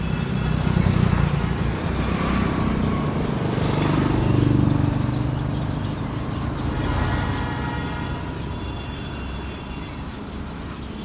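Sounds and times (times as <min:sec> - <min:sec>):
vehicle engine humming: 0:00.0 - 0:11.0
cricket chirping: 0:01.6 - 0:11.0.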